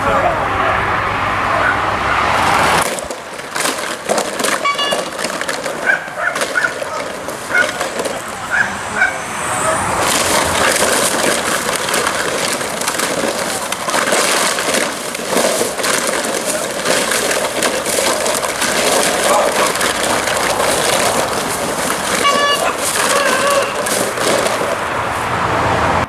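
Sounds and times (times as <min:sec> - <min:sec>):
plastic streamers rustling: 0:02.8 - 0:08.8, 0:09.6 - 0:25.3.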